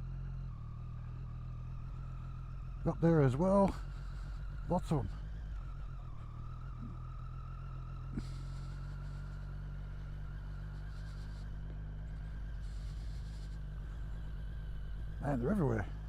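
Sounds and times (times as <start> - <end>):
motorcycle engine running: 0.0 - 16.0
thin steady whine: 0.0 - 16.0.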